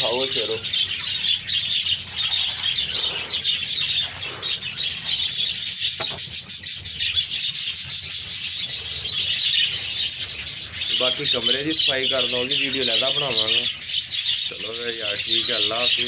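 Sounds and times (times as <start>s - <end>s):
caged birds chirping: 0.0s - 16.0s.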